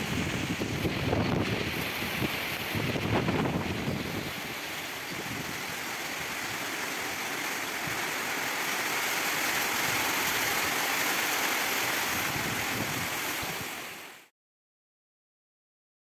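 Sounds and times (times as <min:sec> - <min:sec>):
heavy rain pouring: 0:00.0 - 0:14.3.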